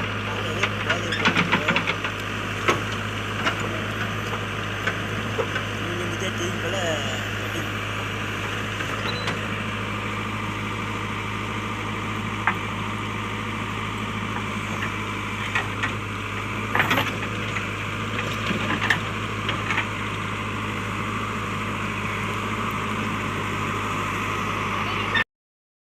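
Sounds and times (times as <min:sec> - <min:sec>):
diesel engine running: 0:00.0 - 0:25.2.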